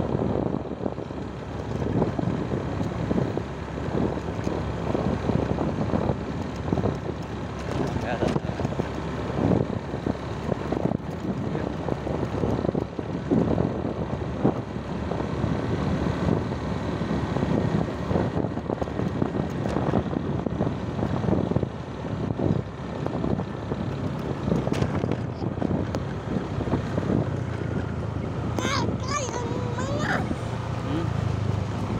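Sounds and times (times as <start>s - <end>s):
motorcycle engine running: 0.0s - 31.9s
wind buffeting microphone: 0.0s - 31.9s.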